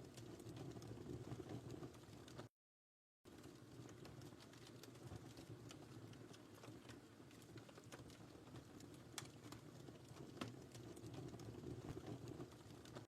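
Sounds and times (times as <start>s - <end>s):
wood fire crackling: 0.0s - 2.5s, 3.3s - 13.0s.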